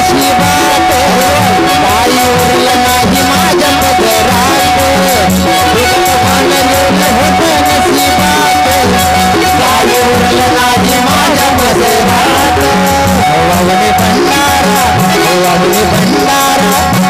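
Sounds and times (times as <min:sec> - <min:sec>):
bending melody line: 0:00.0 - 0:17.0
steady drum beat: 0:00.0 - 0:17.0.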